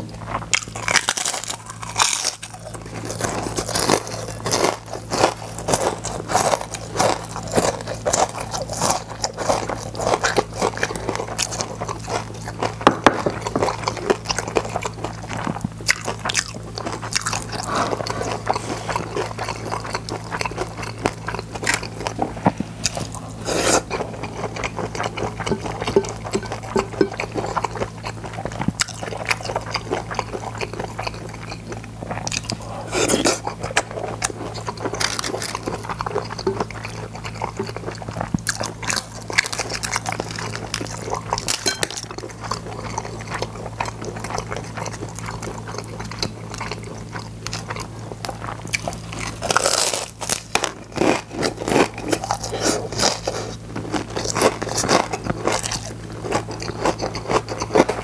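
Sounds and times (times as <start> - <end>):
crunching crispy chips: 0.0 - 58.0
low electrical hum: 0.0 - 58.0.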